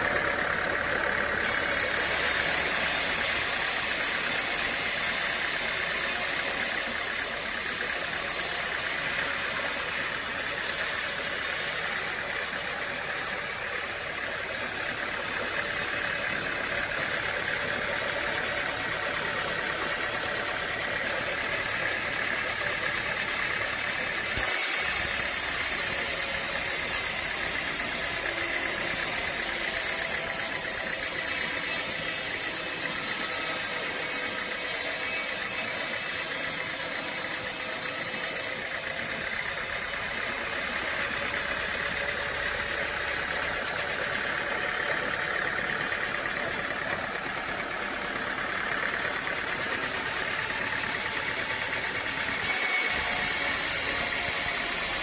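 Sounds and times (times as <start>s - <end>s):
machine engine running: 0.0s - 55.0s.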